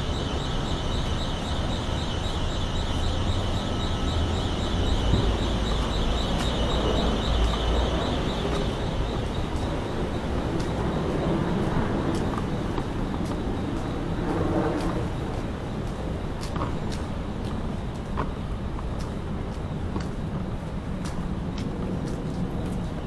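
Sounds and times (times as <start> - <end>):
street traffic: 0.0 - 23.0
wind: 0.0 - 23.0.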